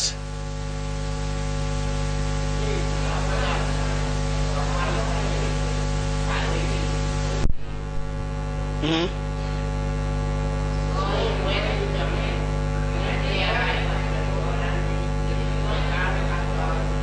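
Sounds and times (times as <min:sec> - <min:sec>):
electrical mains hum: 0:00.0 - 0:17.0
static: 0:00.0 - 0:17.0.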